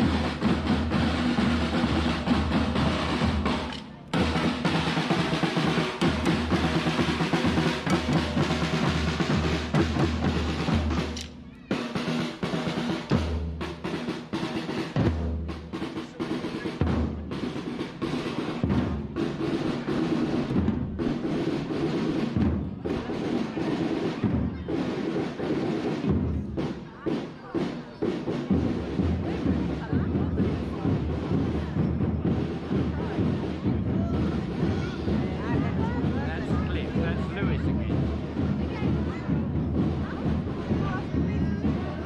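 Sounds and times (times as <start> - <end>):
snare drum rolls: 0.0 - 42.0.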